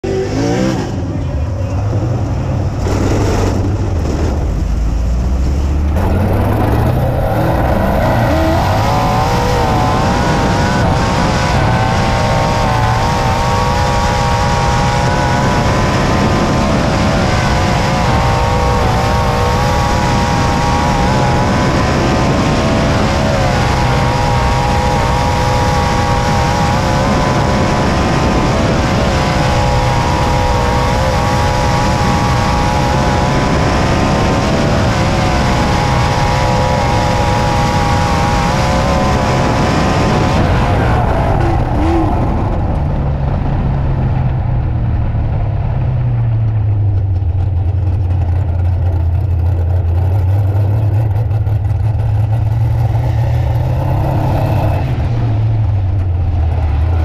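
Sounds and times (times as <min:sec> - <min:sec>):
heavy rushing noise: 0:00.0 - 0:57.0
race car engine revving: 0:00.0 - 0:57.0.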